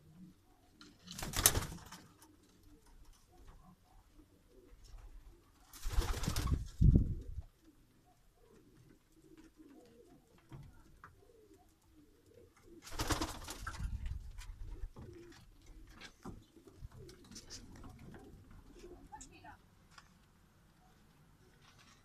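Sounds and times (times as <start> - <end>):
pigeons cooing: 0.0 - 19.2.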